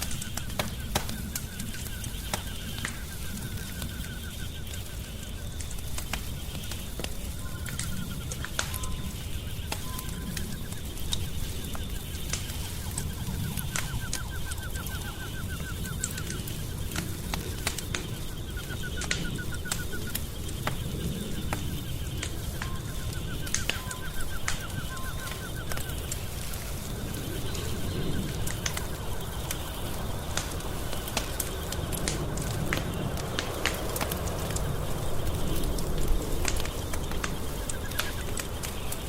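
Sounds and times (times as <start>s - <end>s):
insect chirping trill: 0.0s - 39.0s
wood fire crackling: 0.0s - 39.0s.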